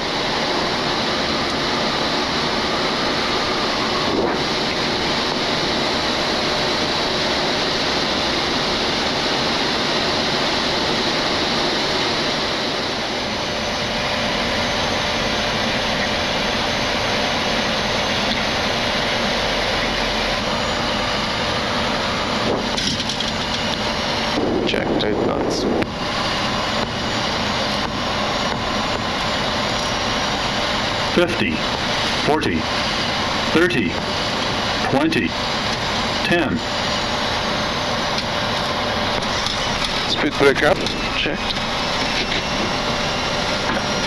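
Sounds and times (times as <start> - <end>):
jet engines and airflow rushing: 0.0 - 44.0.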